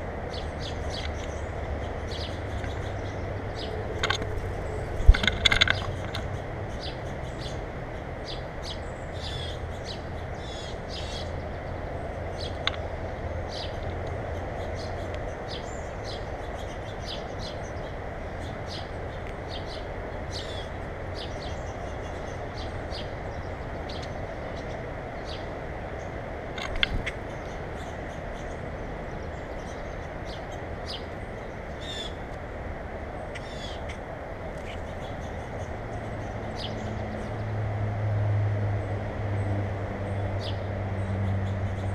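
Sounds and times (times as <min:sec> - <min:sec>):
small birds chirping: 0:00.0 - 0:37.6, 0:38.8 - 0:41.9.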